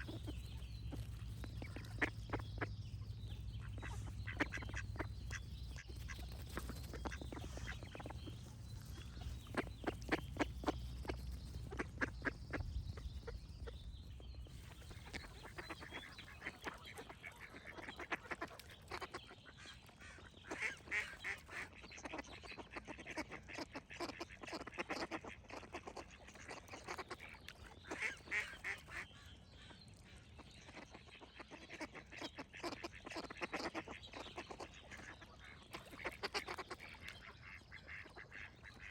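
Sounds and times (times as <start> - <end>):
ducks quacking: 0.0 - 38.9.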